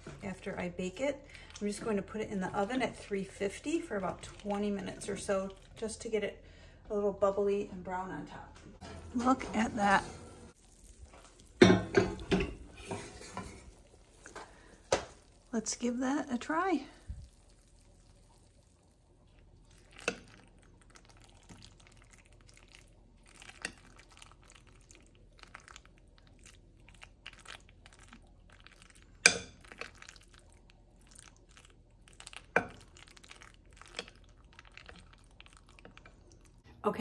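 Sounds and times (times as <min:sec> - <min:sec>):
sticky squelching of pasta: 0:00.2 - 0:06.0, 0:10.5 - 0:11.6, 0:12.7 - 0:36.7.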